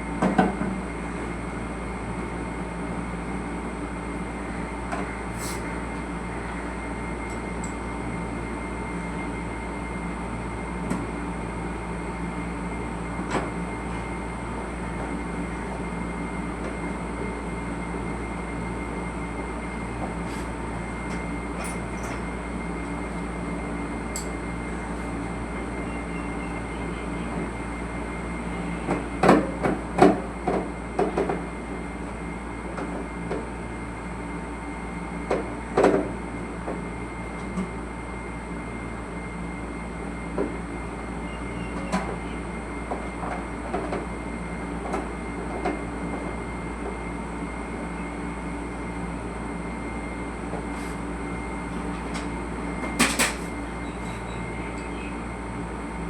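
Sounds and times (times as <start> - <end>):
mechanical hum with whining tones: 0.0 - 56.0.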